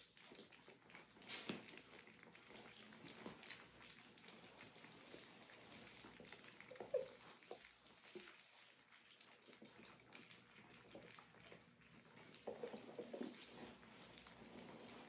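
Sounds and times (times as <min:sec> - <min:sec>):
puppies lapping food: 0:00.0 - 0:15.0.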